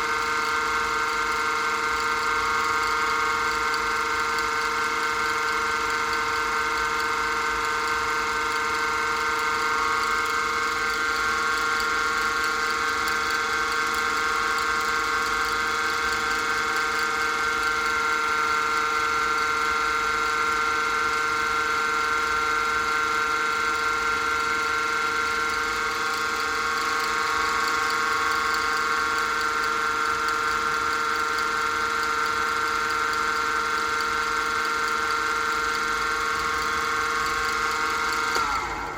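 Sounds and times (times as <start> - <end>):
wood lathe motor whine: 0.0 - 38.9.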